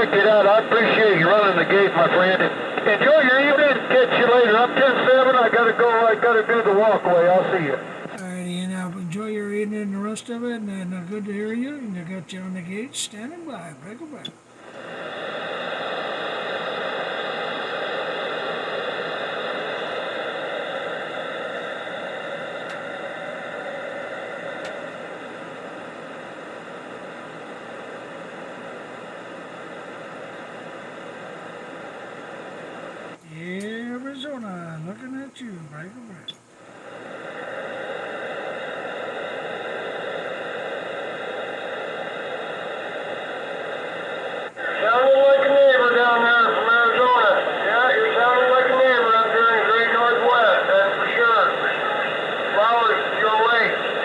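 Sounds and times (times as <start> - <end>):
faint steady tones: 0.0 - 54.0
radio static hissing: 0.0 - 54.0.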